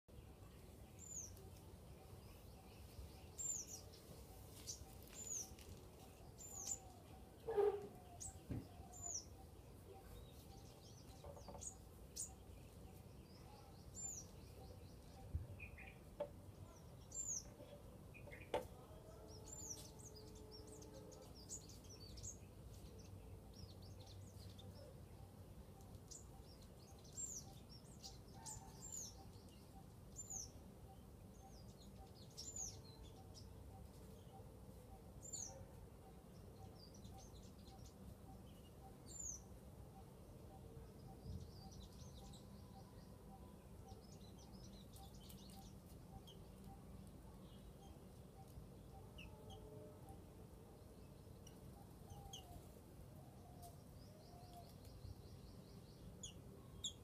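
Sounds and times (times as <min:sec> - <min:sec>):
small birds chirping: 0:00.1 - 0:57.0.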